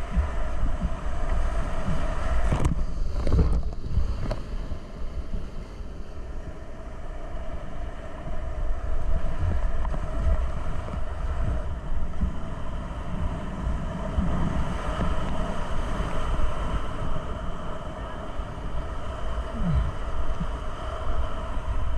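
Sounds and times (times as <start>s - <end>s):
wind buffeting microphone: 0.0s - 4.9s, 6.8s - 21.9s.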